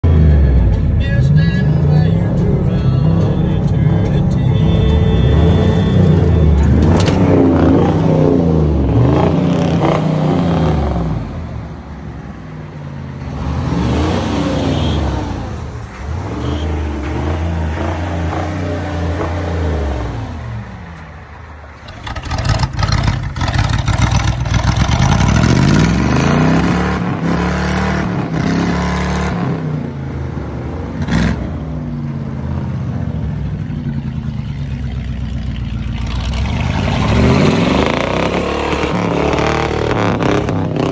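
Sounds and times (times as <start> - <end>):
truck engine revving: 0.0 - 11.4, 13.2 - 20.5, 21.8 - 29.8, 33.6 - 40.9.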